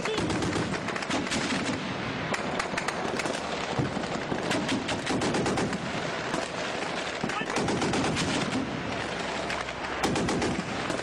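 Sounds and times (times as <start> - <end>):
automatic gunfire: 0.0 - 11.0
dense background noise: 0.0 - 11.0.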